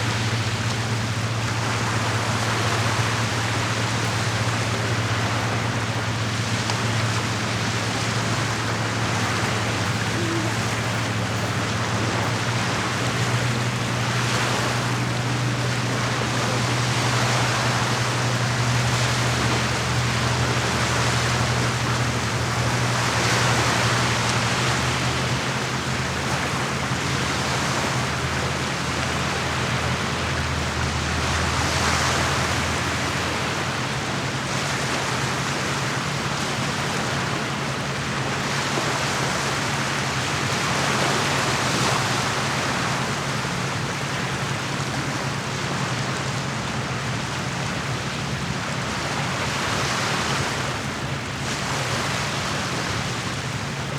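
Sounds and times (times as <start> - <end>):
steady low hum: 0.0 - 53.9
waves lapping at shore: 0.0 - 53.9.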